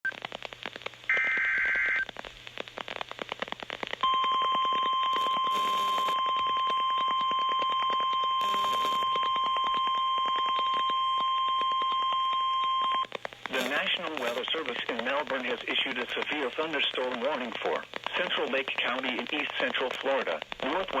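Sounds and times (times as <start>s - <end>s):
radio static crackling: 0.0s - 21.0s.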